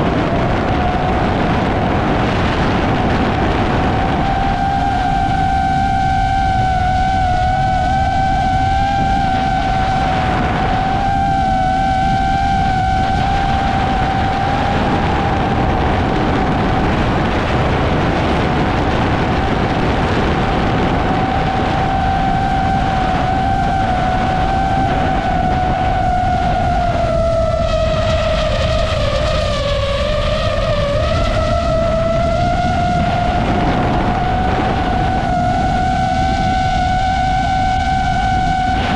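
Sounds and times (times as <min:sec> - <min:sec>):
drone motors whining: 0:00.0 - 0:38.9
wind rush on microphone: 0:00.0 - 0:38.9.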